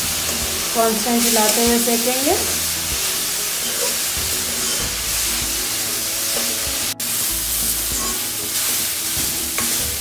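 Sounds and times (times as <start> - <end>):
carrots sizzling in a pan: 0.0 - 10.0.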